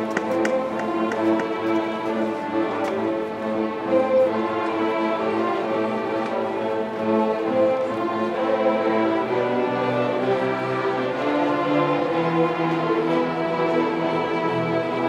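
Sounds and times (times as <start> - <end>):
string orchestra bowing held notes: 0.0 - 15.0.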